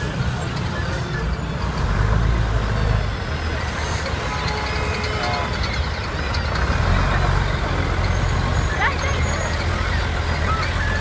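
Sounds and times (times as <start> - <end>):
street noise: 0.0 - 11.0
truck engine rumbling: 0.0 - 11.0.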